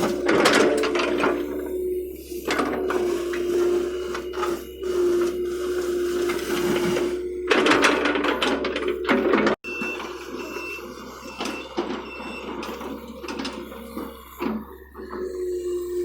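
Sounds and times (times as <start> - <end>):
excavator engine and hydraulics whine: 0.0 - 16.0.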